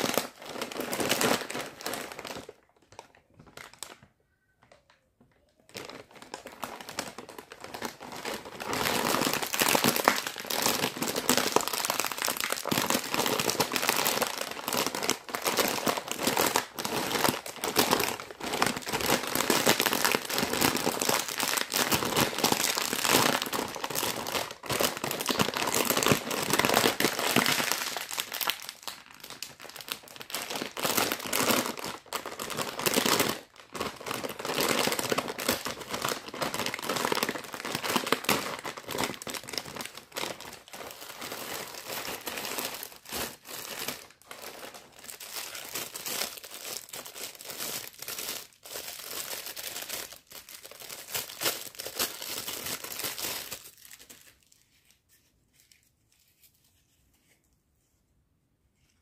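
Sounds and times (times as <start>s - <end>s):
plastic snack bag crinkling: 0.0s - 56.5s.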